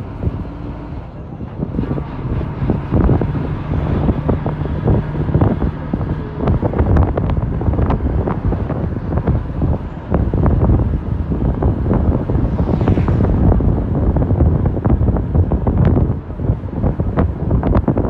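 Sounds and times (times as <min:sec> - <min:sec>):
bus rumbling: 0:00.0 - 0:18.0
wind buffeting a microphone: 0:00.0 - 0:18.0.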